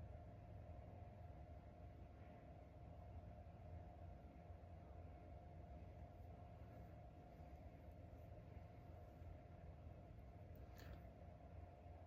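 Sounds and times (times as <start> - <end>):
faint low hum and hiss: 0.0 - 12.0.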